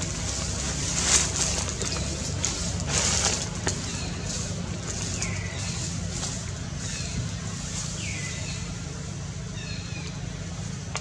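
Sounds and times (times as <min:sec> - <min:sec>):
low rumble with hiss: 0:00.0 - 0:11.0.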